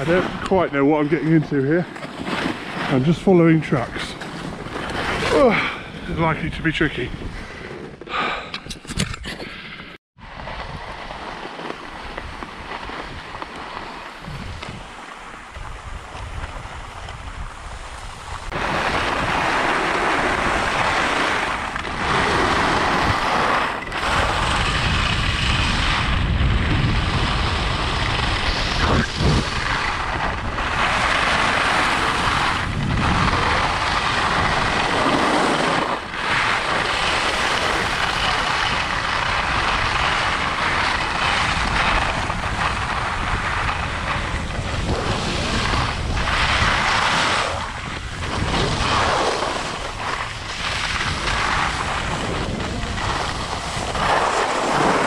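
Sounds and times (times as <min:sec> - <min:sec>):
wind rumble on microphone: 0:00.0 - 0:07.7, 0:10.2 - 0:55.0
skis scraping across snow: 0:00.0 - 0:08.4, 0:10.2 - 0:55.0.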